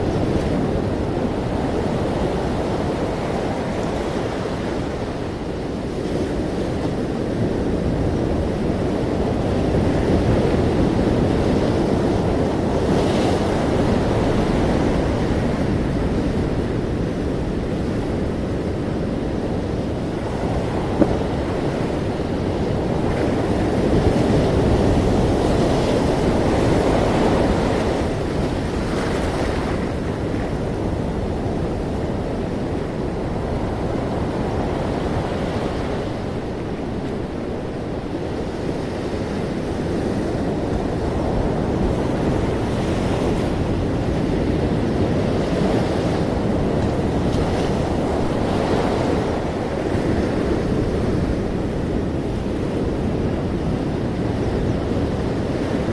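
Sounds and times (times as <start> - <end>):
ocean waves rushing: 0.0 - 55.9.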